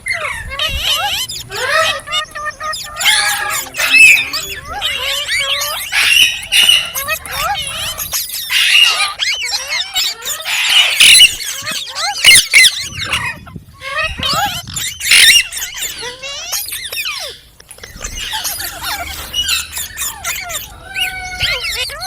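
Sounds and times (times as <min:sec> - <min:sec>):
parakeet chirping and squawking: 0:00.0 - 0:22.0.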